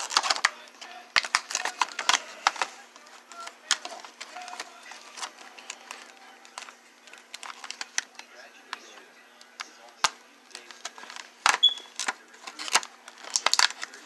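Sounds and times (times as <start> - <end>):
plastic packaging crackling: 0.0 - 14.0.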